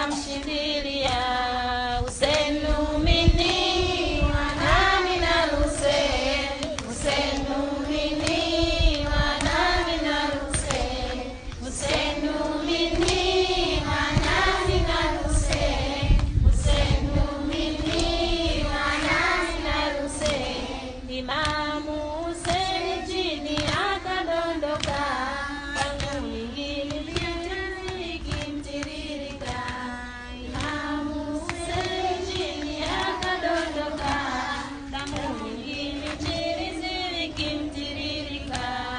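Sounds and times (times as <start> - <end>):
children chanting in unison: 0.0 - 26.6, 27.2 - 38.9
rhythmic chest-beating: 0.0 - 38.9.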